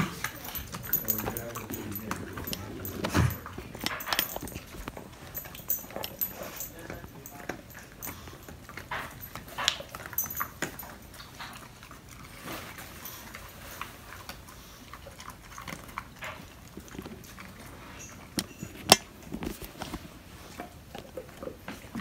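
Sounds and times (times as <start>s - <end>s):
dogs gnawing chew sticks: 0.0s - 22.0s.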